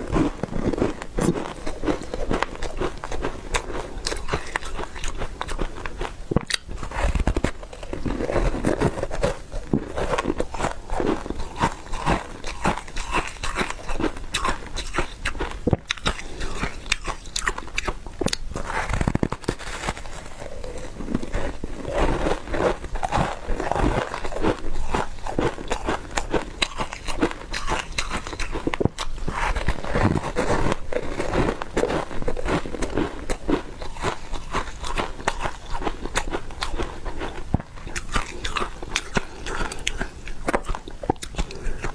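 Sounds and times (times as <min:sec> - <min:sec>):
crunching ice: 0:00.0 - 0:41.9.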